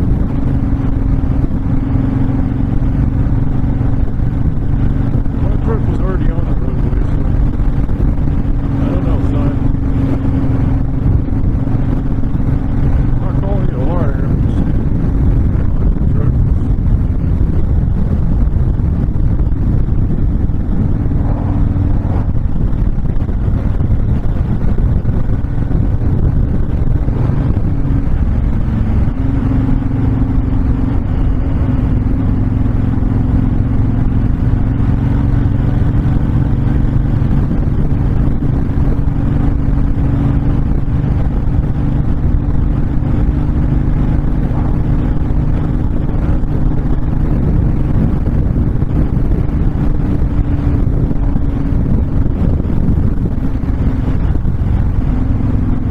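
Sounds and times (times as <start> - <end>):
motorcycle engine cruising: 0.0 - 55.9
wind rushing over microphone: 0.0 - 55.9.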